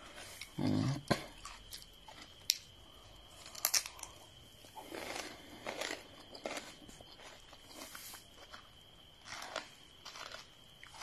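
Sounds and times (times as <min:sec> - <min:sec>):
chewing crunchy cucumber: 0:00.0 - 0:11.0.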